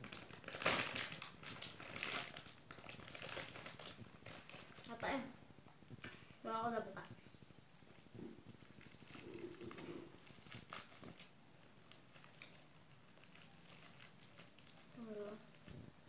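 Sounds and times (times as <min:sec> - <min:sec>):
paper packet crinkling: 0:00.0 - 0:05.1, 0:07.9 - 0:15.8.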